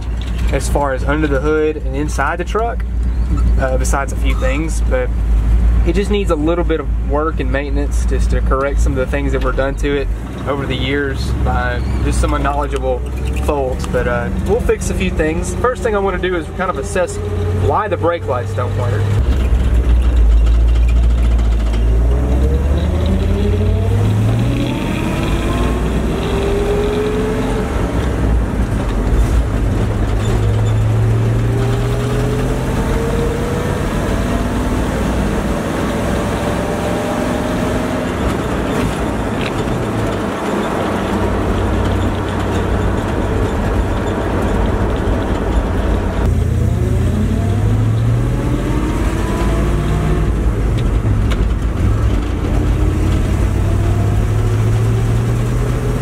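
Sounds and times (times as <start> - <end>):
road noise: 0.0 - 56.0
truck engine accelerating: 0.0 - 56.0.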